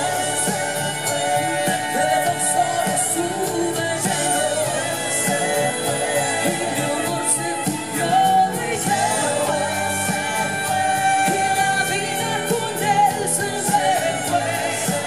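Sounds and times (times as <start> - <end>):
drum beat: 0.0 - 15.0
woman singing into a microphone: 0.0 - 15.0.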